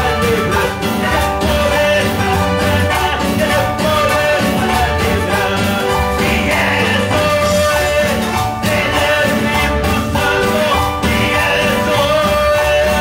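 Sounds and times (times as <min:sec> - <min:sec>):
amplified instrumental backing: 0:00.0 - 0:13.0
man singing into a microphone: 0:00.0 - 0:13.0.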